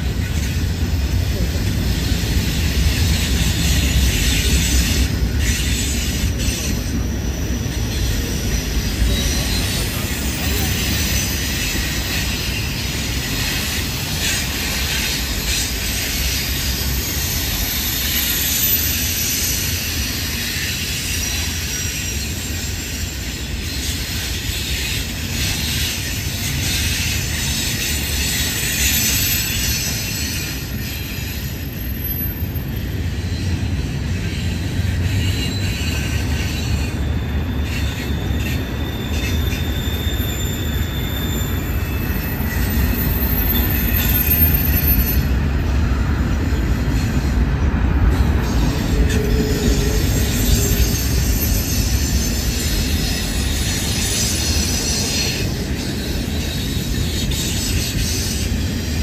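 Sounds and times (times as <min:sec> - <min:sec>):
steel wheels rumbling on rail: 0:00.0 - 0:59.0
thin wheel squeals: 0:02.1 - 0:45.8, 0:48.1 - 0:59.0.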